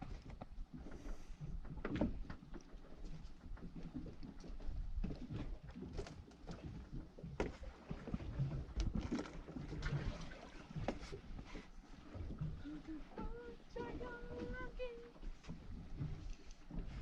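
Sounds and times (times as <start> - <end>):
water sound: 0.1 - 17.0.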